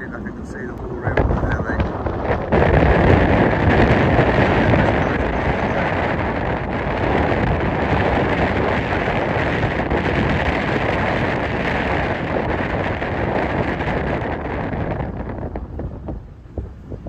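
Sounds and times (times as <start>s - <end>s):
wind blowing on microphone: 0.0s - 17.0s.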